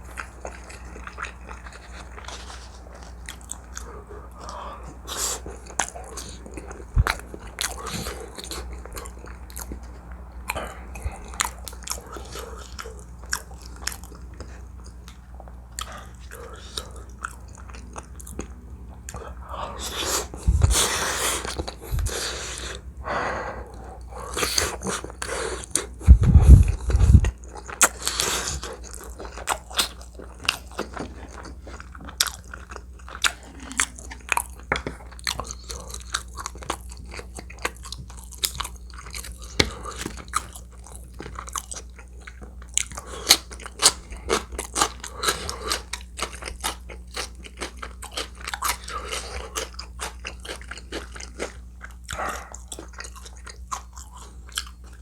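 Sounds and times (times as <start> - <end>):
chewing and biting: 0.0 - 22.8, 23.7 - 55.0.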